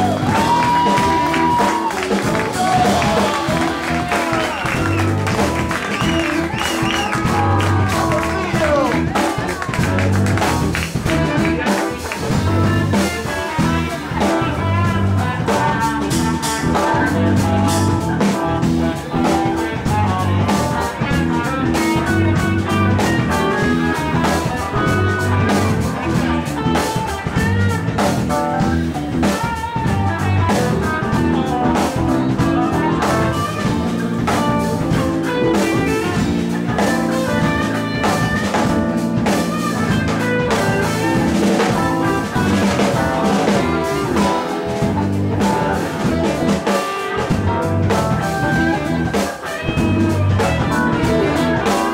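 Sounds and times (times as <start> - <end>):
drum kit: 0.0 - 51.9
electric guitars: 0.0 - 51.9
saxophone: 0.0 - 51.9.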